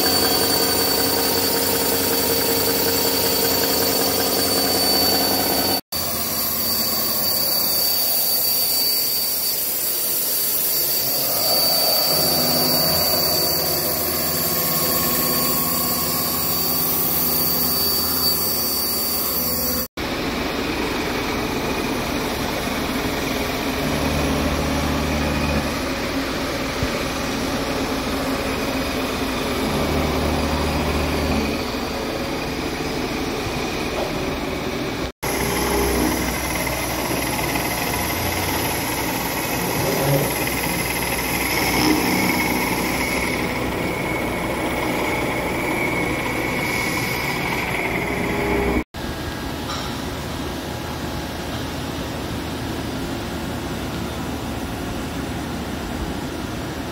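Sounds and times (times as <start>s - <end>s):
boring mill machining with whine: 0.0s - 56.9s.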